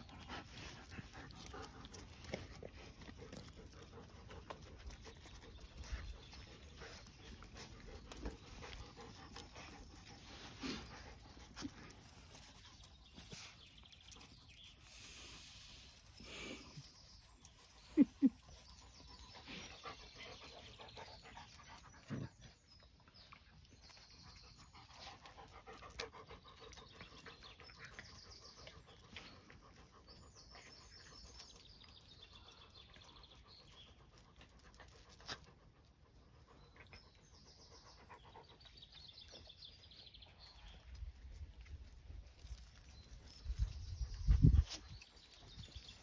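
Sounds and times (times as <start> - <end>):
puppies panting: 0.0 - 46.0.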